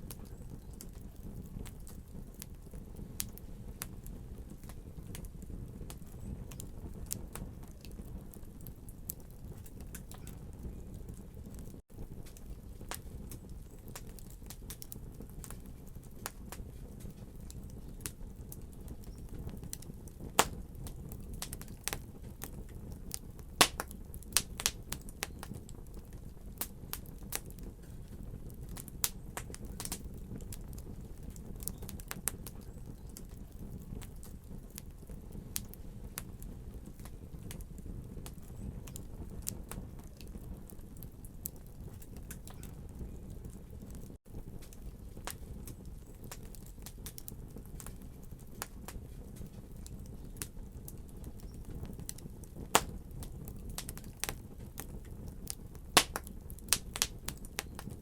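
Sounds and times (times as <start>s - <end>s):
fire crackling and popping: 0.0s - 58.0s
fire low rumble: 0.0s - 58.0s.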